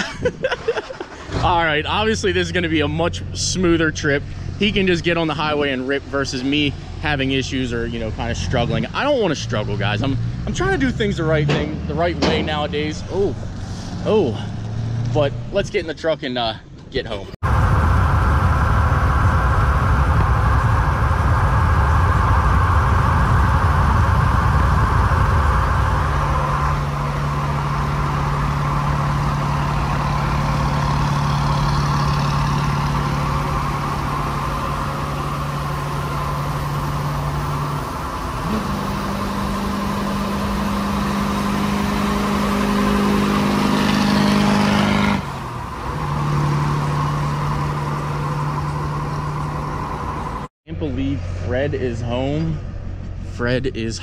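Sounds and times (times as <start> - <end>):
engine drone: 0.0 - 15.9, 17.1 - 54.0
road and wind rushing: 0.0 - 54.0.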